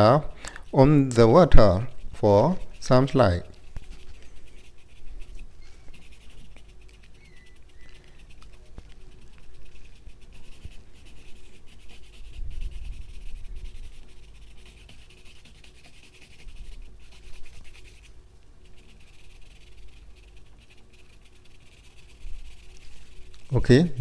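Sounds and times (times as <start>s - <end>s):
paintbrush scratching on surface: 0.0s - 24.0s.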